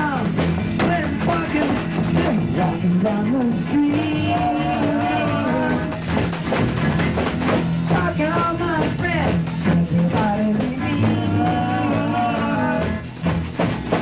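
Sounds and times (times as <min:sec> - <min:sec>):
garage rock band playing: 0:00.0 - 0:14.0.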